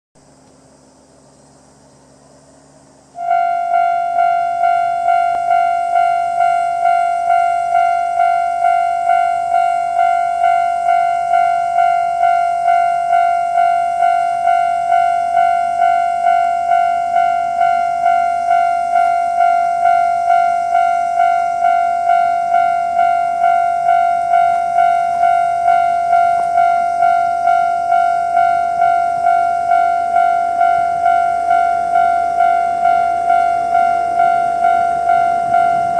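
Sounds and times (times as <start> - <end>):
electronic crossing bell ding: 3.2 - 35.9.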